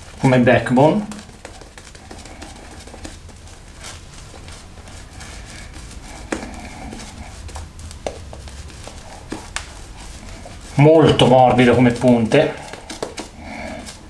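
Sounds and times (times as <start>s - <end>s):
shaving brush lathering cream: 0.0s - 14.0s.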